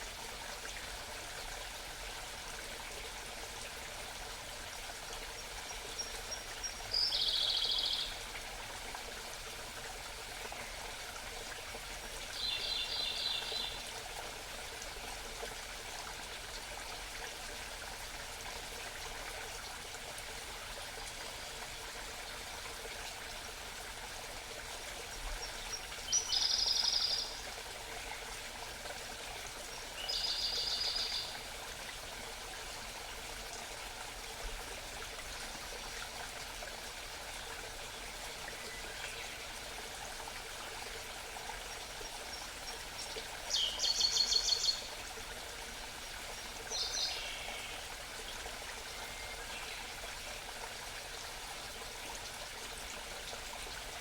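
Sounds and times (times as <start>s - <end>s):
mountain stream murmuring: 0.0s - 54.0s.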